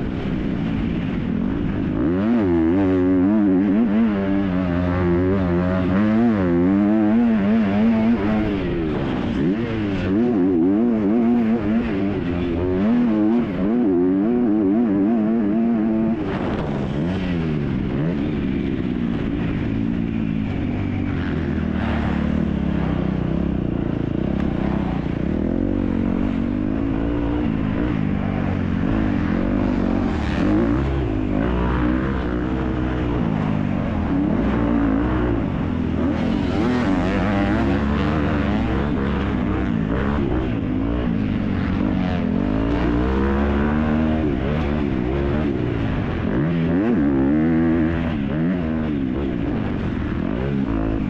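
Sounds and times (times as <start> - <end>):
motocross bike engine revving: 0.0 - 51.0.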